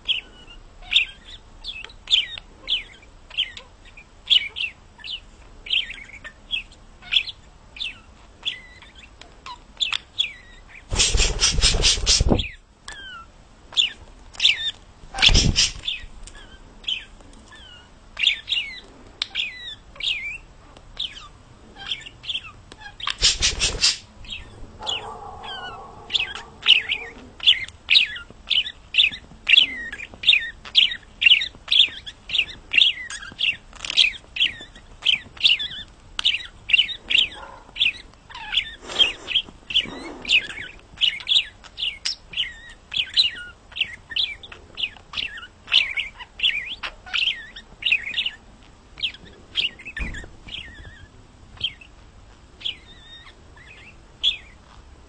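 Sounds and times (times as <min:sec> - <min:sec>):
budgerigar chirping: 0:00.0 - 0:52.0, 0:52.6 - 0:54.9.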